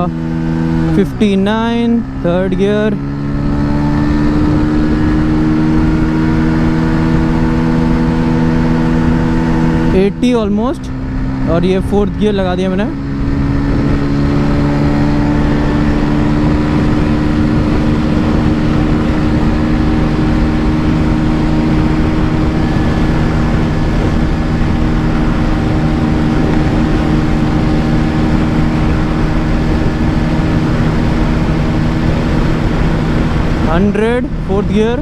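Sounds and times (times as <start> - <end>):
motorcycle engine at high revs: 0.0 - 35.0
wind rushing over microphone: 0.0 - 35.0.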